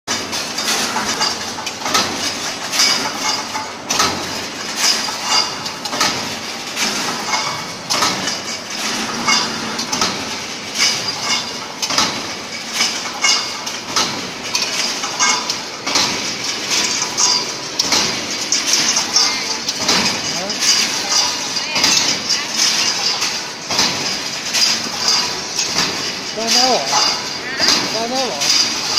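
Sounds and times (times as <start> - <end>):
metallic clank: 0.1 - 28.9
steady mechanical din: 0.1 - 28.9.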